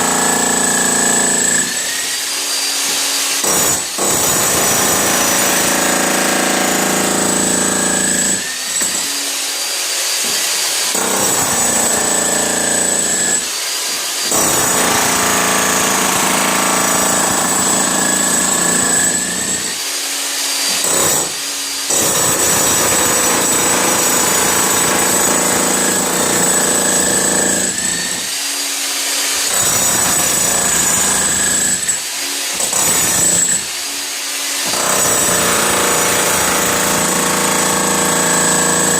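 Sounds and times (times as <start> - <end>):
jackhammer pounding concrete: 0.0 - 1.9, 3.4 - 9.1, 10.9 - 13.6, 14.2 - 19.8, 20.7 - 28.3, 29.3 - 33.7, 34.6 - 38.9.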